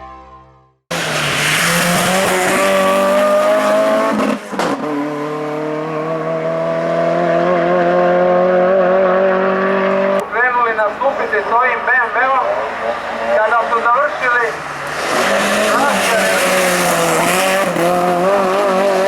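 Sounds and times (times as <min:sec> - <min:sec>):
race car engine at high revs: 0:00.9 - 0:19.0.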